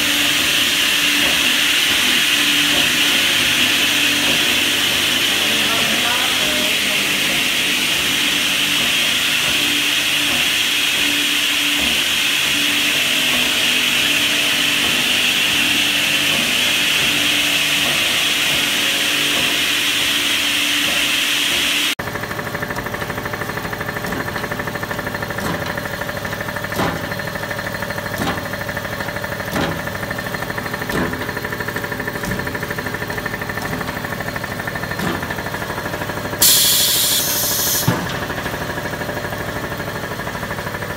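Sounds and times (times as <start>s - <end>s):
machine hum: 0.0s - 40.9s
woodworking machine hiss and whine: 0.0s - 40.9s.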